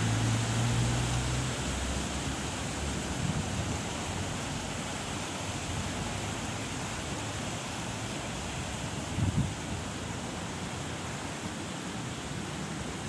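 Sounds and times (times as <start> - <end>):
wind through palm fronds: 0.0 - 13.0.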